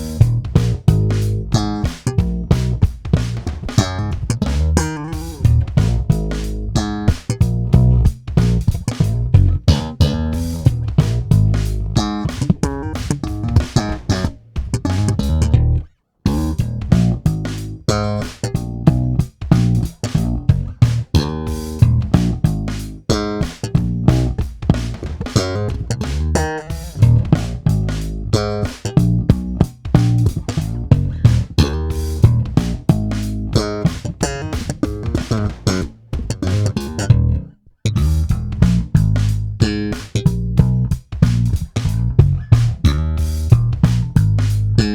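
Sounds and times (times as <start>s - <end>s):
electric bass plucked notes: 0.0s - 44.9s.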